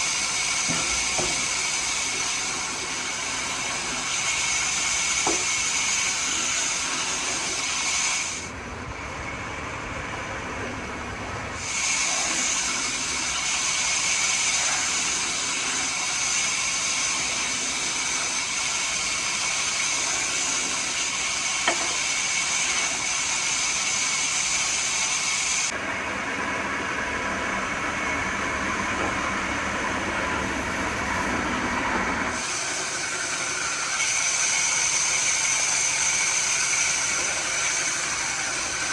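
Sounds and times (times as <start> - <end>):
woodworking machinery whining: 0.0 - 38.9.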